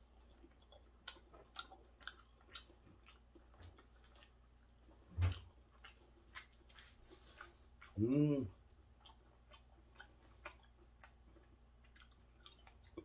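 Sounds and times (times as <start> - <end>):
wet mouth chewing clicks: 0.2 - 4.6, 5.3 - 13.0.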